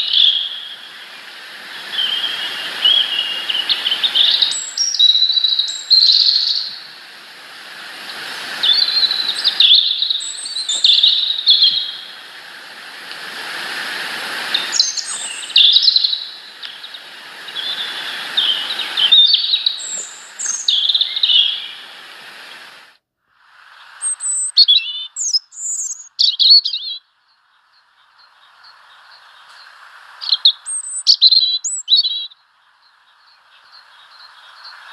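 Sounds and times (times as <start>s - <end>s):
small birds chirping: 0.0s - 7.0s, 8.0s - 12.4s, 14.4s - 22.7s, 23.8s - 34.9s
steady hiss: 0.0s - 26.0s, 27.4s - 34.9s.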